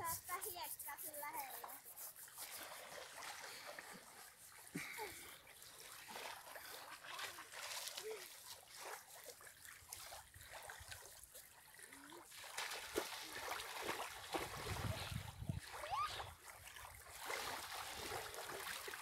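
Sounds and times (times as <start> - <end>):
small waves lapping: 1.2 - 19.0.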